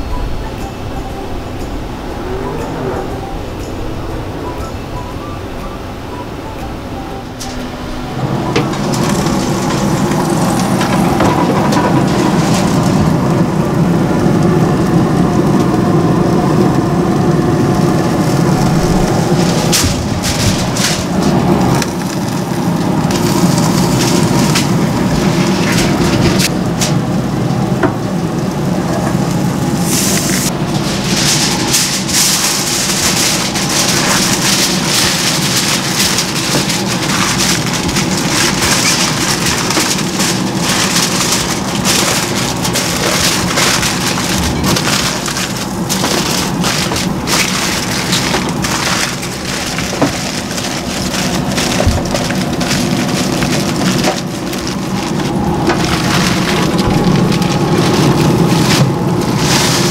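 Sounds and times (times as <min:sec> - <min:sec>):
steady low hum: 0:00.0 - 0:59.9
aluminium foil crinkling: 0:08.2 - 0:59.9.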